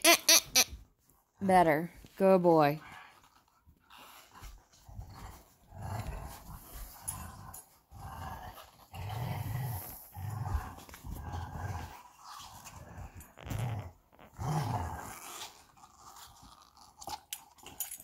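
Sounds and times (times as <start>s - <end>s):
dog play-growling: 2.8s - 18.0s.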